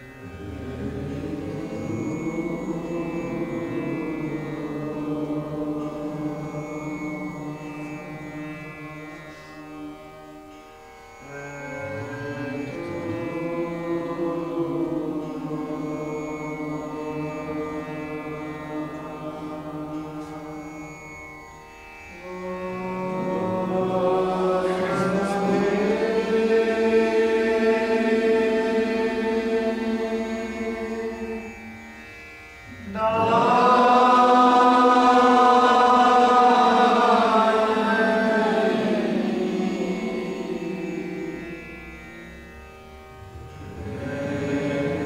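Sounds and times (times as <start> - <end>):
melodic mantra chanting: 0.0 - 45.0.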